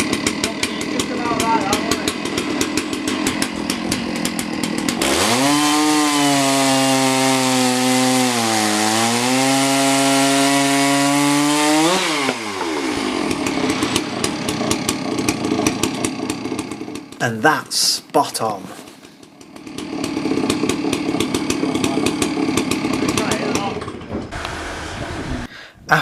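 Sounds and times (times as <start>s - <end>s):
chainsaw idling and revving: 0.0s - 17.4s, 18.4s - 25.5s.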